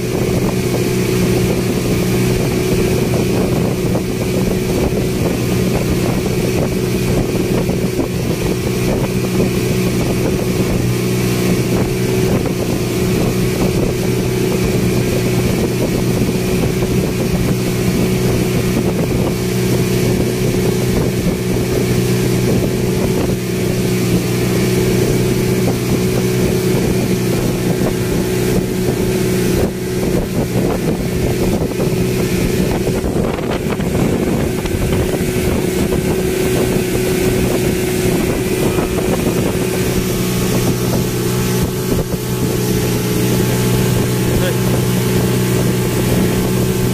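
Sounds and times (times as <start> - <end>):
boat engine droning: 0.0 - 46.9
wind rushing: 0.0 - 46.9.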